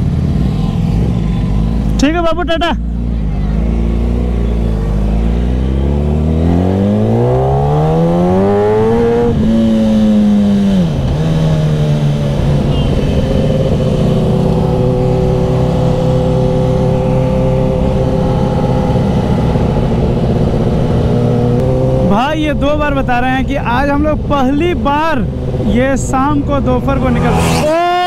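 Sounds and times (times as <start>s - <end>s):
motorcycle engine accelerating: 2.8s - 28.0s.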